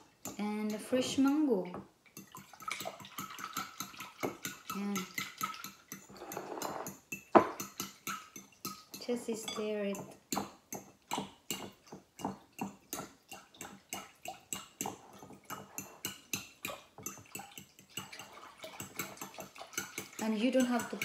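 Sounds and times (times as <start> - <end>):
spoon clinking in glass bowl: 2.2 - 11.6, 12.9 - 21.0.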